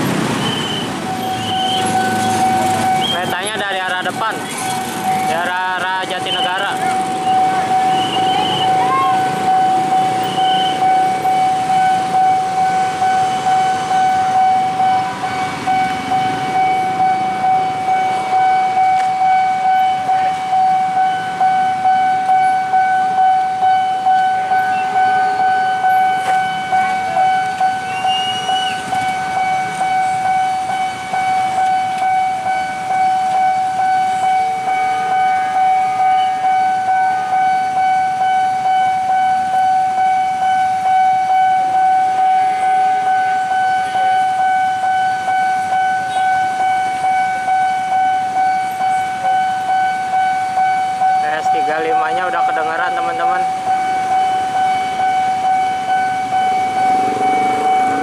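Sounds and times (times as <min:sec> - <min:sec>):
level crossing bell ringing: 0:02.0 - 0:58.0.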